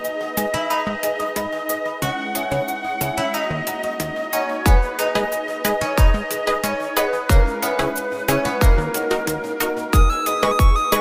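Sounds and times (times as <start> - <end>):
simple electronic melody: 0.0 - 11.0.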